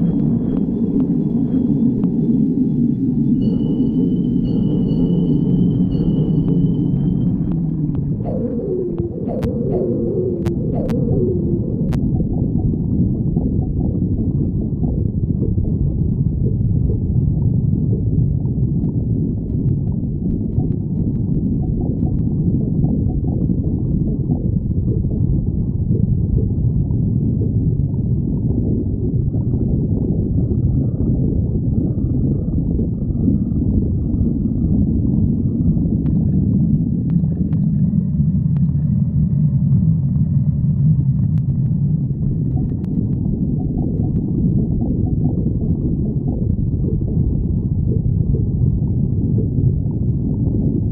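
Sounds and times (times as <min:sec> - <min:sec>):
stomach growling: 0:07.0 - 0:50.9.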